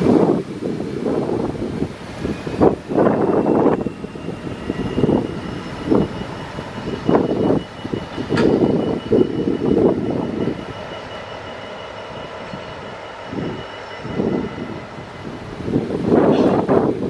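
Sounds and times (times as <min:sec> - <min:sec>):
diesel locomotives idling: 0:00.0 - 0:17.0
wind buffeting microphone: 0:00.0 - 0:17.0.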